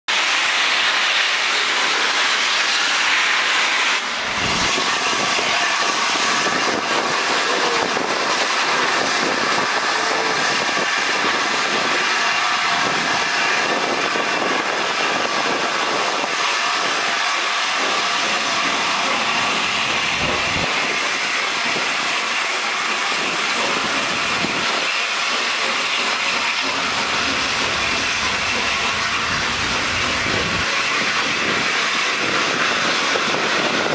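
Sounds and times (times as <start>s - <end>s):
steam locomotive hissing: 0.1s - 33.9s
train running over rails: 0.1s - 33.9s.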